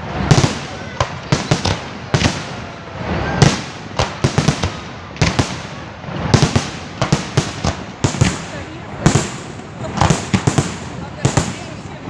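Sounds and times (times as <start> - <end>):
fireworks bursting in loud bangs: 0.0 - 12.0.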